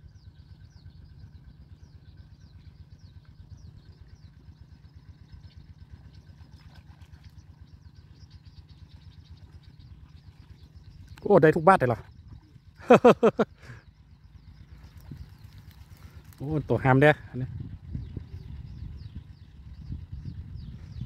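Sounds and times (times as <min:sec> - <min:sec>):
bird chirping: 0:00.0 - 0:21.0
small engine running: 0:00.0 - 0:21.0.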